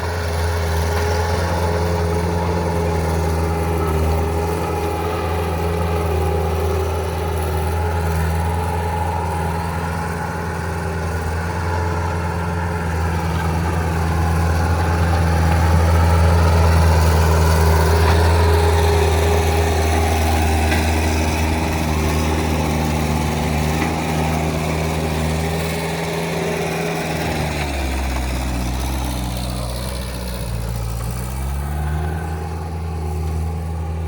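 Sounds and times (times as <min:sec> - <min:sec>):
track loader diesel engine running: 0:00.0 - 0:34.0.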